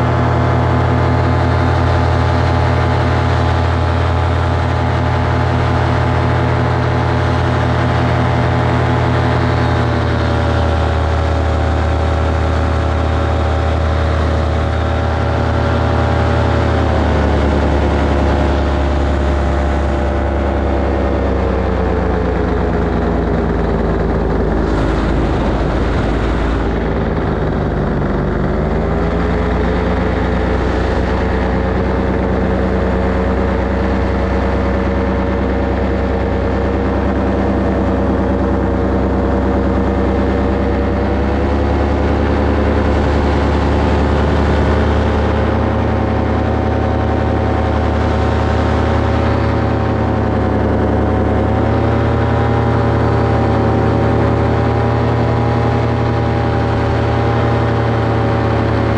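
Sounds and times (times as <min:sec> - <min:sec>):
paramotor engine and propeller: 0:00.0 - 0:58.9.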